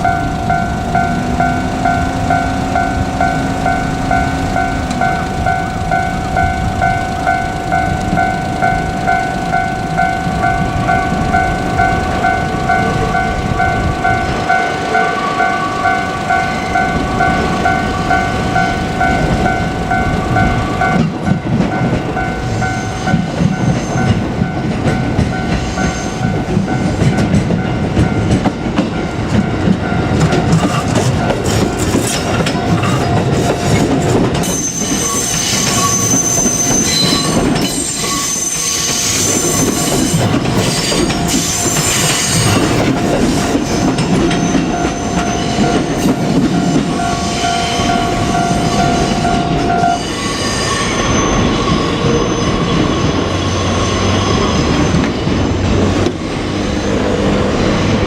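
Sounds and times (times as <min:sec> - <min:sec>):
high-pitched wheel squeal: 0:00.0 - 0:24.3, 0:30.5 - 0:58.0
multi-pitch ringing tone: 0:00.0 - 0:52.5
train rumbling and wheel clatter: 0:00.0 - 0:58.0.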